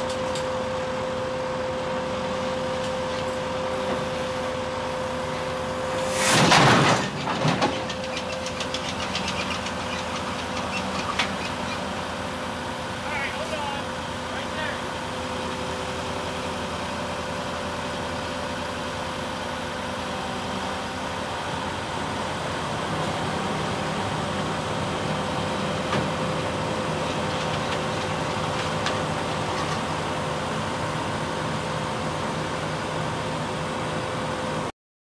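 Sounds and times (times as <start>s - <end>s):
diesel engine running: 0.0s - 34.7s.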